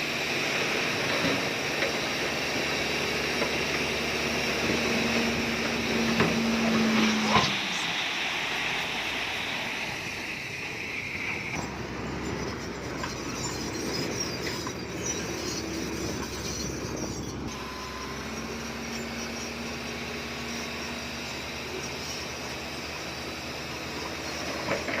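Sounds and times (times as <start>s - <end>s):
bulldozer diesel engine running: 0.0s - 25.0s
high squeal: 0.0s - 25.0s
low engine hum: 0.0s - 25.0s.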